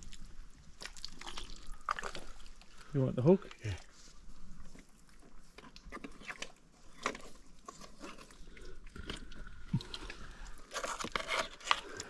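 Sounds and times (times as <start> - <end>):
wet mud crackling and sucking: 0.0 - 12.0.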